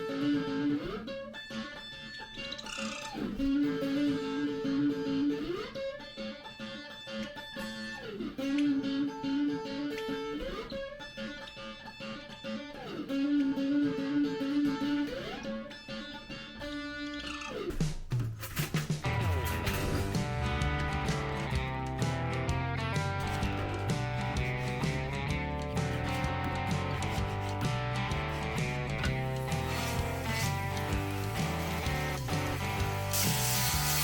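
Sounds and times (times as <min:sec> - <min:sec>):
plucked guitar tune: 0:00.0 - 0:34.0.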